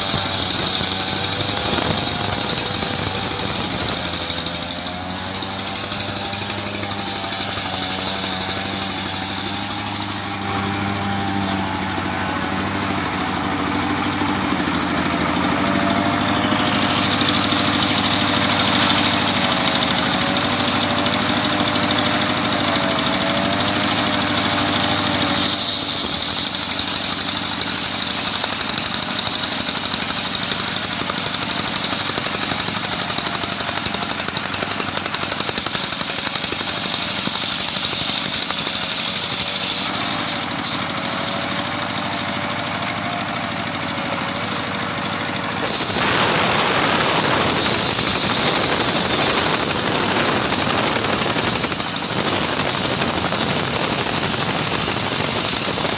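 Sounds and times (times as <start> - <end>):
saw blade cutting wood: 0.0 - 55.9
sawmill engine running: 0.0 - 55.9.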